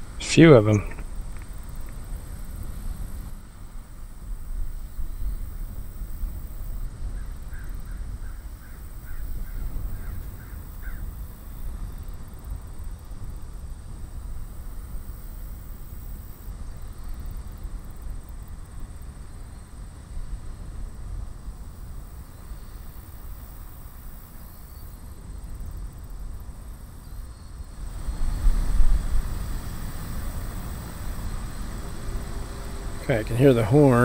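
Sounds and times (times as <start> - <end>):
low outdoor rumble: 0.0 - 23.8, 27.7 - 34.0
faint high whine: 0.0 - 34.0.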